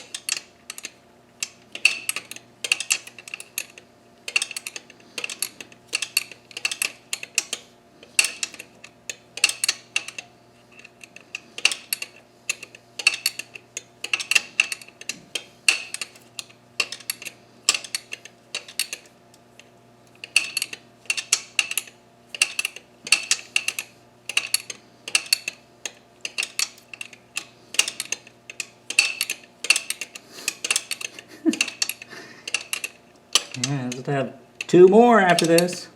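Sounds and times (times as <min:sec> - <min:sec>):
ratchet wrench clicking: 0:00.0 - 0:07.6, 0:08.2 - 0:19.1, 0:20.2 - 0:34.0, 0:34.6 - 0:35.8.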